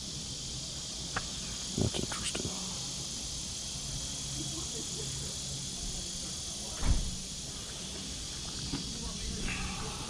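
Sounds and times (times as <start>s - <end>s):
high-pitched insect chorus: 0.0s - 10.0s
faint low hum: 0.6s - 10.0s.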